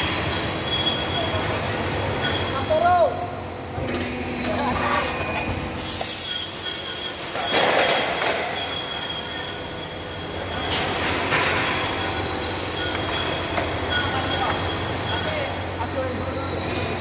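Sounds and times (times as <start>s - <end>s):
machine high whine: 0.0s - 17.0s.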